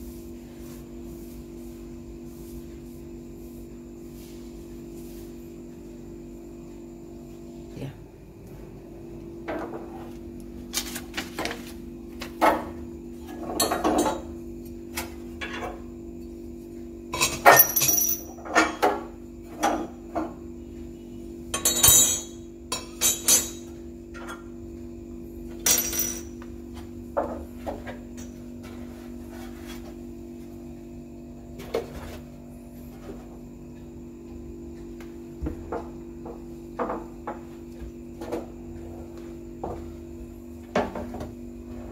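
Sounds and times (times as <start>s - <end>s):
steady low hum: 0.0s - 17.4s, 18.0s - 41.9s.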